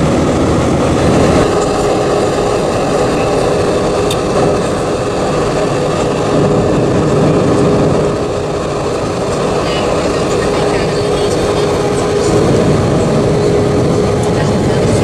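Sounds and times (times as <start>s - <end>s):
jet engine cabin roar: 0.0s - 15.0s.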